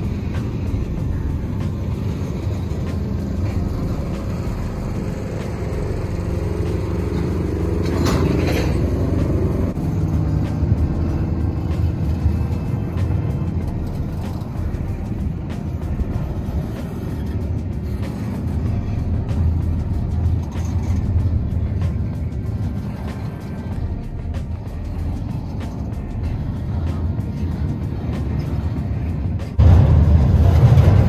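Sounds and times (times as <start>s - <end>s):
sharp clicks of wheels: 0.0s - 29.8s
freight train rumbling past: 0.0s - 31.0s.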